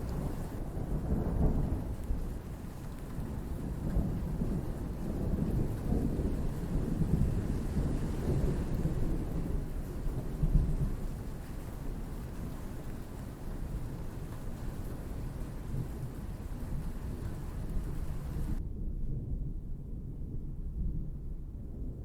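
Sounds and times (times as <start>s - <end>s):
steady rain: 0.0s - 18.6s
low rolling thunder: 0.0s - 22.0s.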